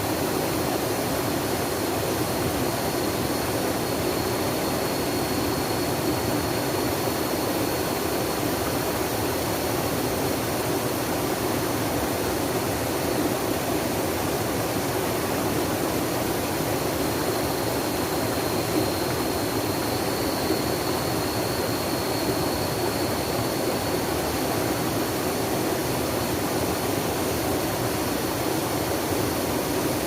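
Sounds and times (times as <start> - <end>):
water rushing: 0.0 - 30.0.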